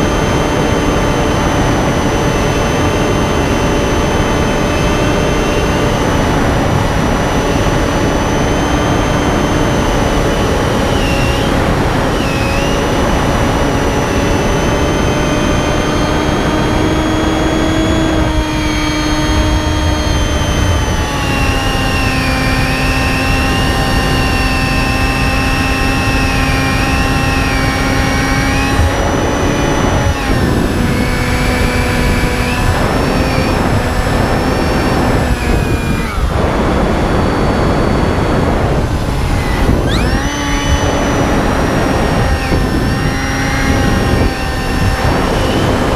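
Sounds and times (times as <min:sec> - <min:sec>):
electric motor and propeller drone: 0:00.0 - 0:45.9
wind noise: 0:00.0 - 0:45.9.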